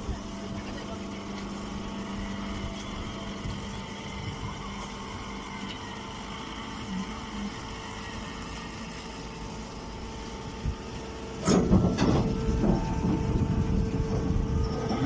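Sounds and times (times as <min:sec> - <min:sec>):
baler machine hum: 0:00.0 - 0:15.0.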